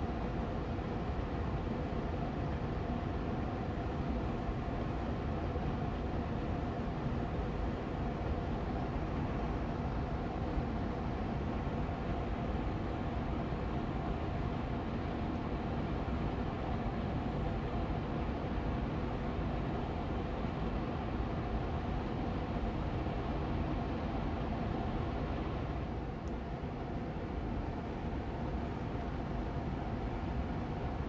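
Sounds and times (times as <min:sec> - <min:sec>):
air purifier fan running: 0:00.0 - 0:31.0.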